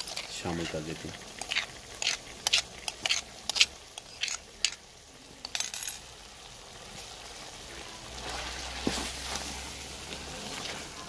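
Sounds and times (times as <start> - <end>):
paste sizzling in pot: 0.0 - 11.0.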